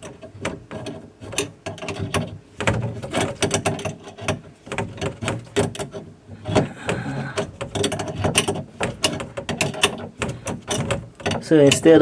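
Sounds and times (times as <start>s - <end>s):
hand tool clicking and rattling: 0.0s - 12.0s.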